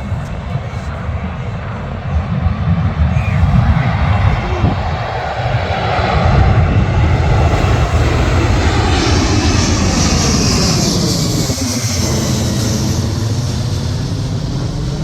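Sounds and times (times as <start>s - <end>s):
high jet whine: 0.0s - 15.0s
jet airliner rumble: 0.0s - 15.0s.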